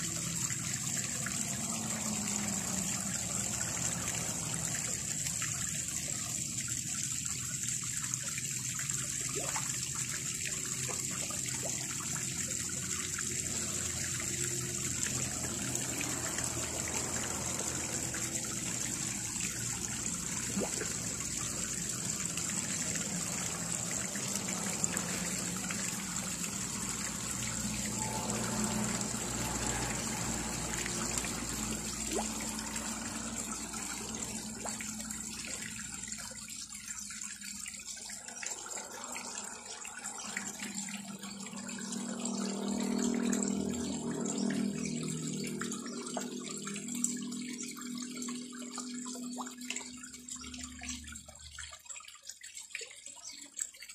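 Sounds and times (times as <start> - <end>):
small waterfall trickling into pond: 0.0 - 53.9.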